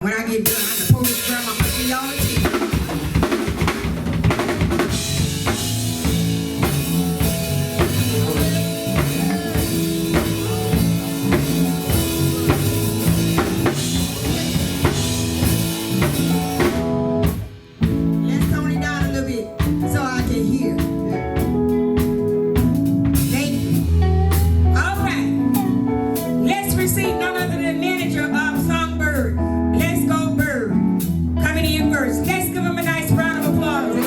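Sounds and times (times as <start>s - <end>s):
drum kit beat: 0.0s - 34.0s
live band music: 0.0s - 34.0s
held bass notes: 2.7s - 34.0s.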